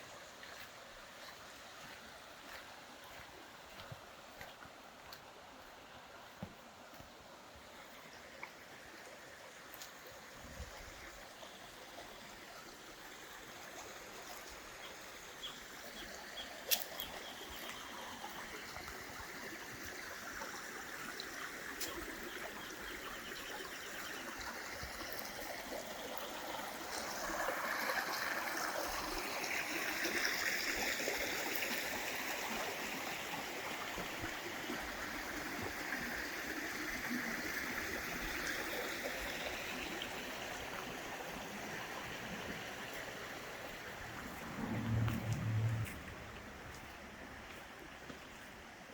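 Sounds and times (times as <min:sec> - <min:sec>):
creek water over rocks: 0:00.0 - 0:48.9.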